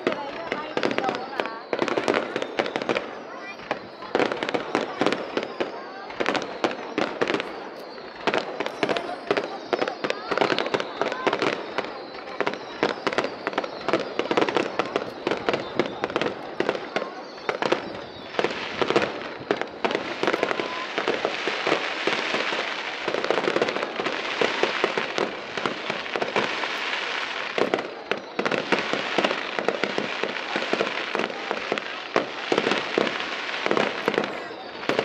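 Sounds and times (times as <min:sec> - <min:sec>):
firework stars crackling: 0:00.0 - 0:35.0.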